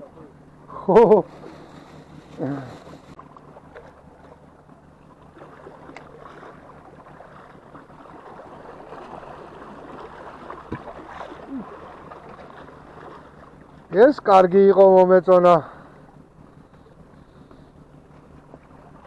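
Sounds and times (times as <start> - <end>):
small waves lapping shore: 0.0 - 19.0.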